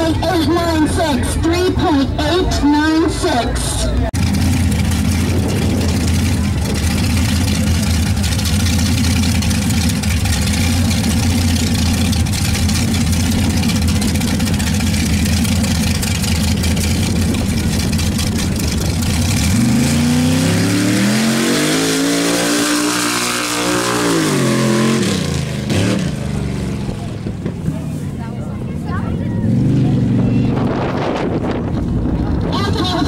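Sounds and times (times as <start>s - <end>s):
truck engine idling and revving: 0.0s - 33.0s.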